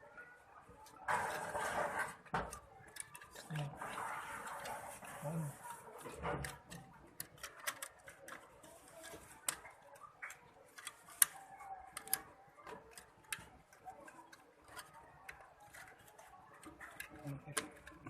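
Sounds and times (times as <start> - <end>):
computer parts clicking and tapping: 0.8 - 5.1, 6.0 - 18.0.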